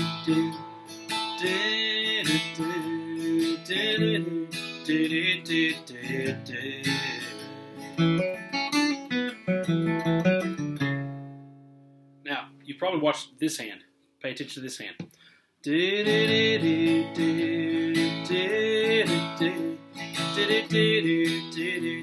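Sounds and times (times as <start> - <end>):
acoustic guitar picking: 0.0 - 12.2, 15.7 - 22.0.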